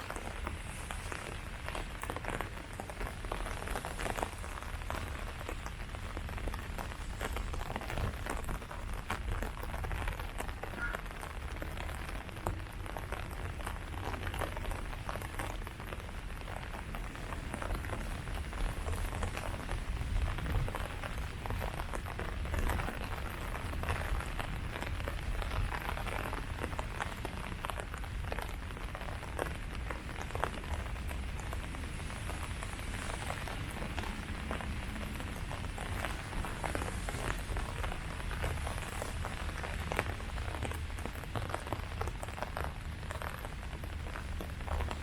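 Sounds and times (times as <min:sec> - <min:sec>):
rain falling on leaves: 0:00.0 - 0:45.0.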